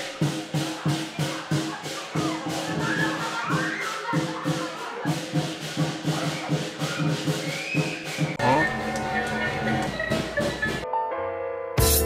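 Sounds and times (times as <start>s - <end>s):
drum beating: 0.0s - 10.8s.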